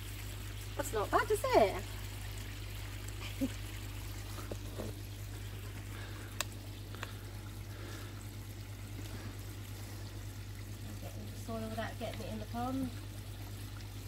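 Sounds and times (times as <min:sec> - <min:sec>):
low steady hum: 0:00.0 - 0:14.0
water pouring into a pond: 0:00.0 - 0:14.0.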